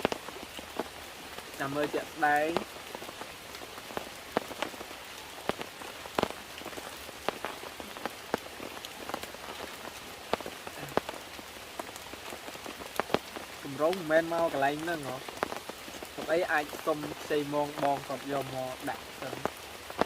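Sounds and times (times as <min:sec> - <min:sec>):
heavy raindrops ticking close by: 0:00.0 - 0:20.0
steady rain: 0:00.0 - 0:20.0.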